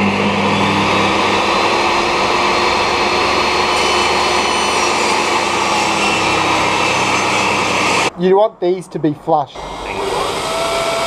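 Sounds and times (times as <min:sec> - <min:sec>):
table saw cutting wood: 0:00.0 - 0:08.1, 0:09.6 - 0:11.0.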